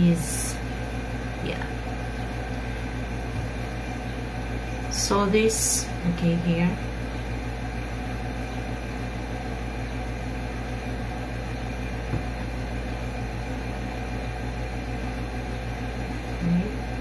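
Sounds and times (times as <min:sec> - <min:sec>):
room hum and hiss: 0:00.0 - 0:17.0.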